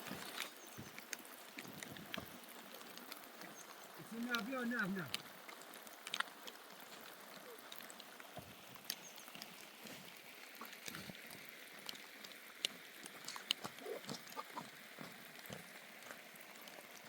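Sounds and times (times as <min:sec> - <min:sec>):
rain falling: 0:00.0 - 0:17.0
sharp drips and taps: 0:00.0 - 0:17.0.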